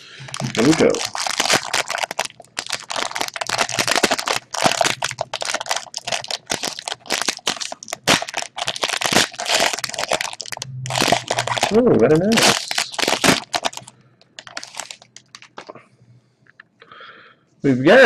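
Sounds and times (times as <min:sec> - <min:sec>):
foil wrapper crinkling and tearing: 0:00.2 - 0:15.7.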